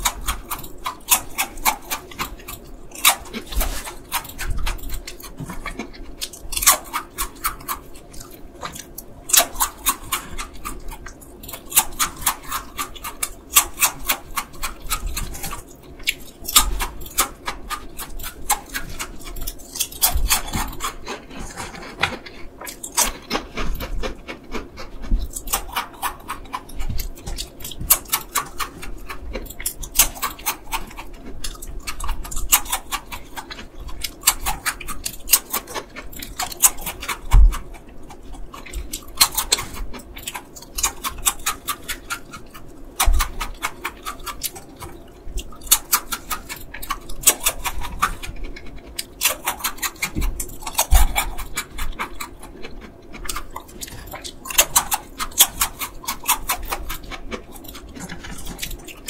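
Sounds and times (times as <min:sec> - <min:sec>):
snack chips crunched and chewed: 0:00.0 - 0:59.0.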